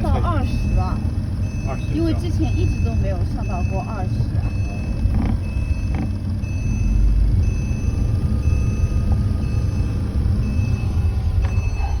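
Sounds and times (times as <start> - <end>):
engine and road noise: 0.0 - 12.0.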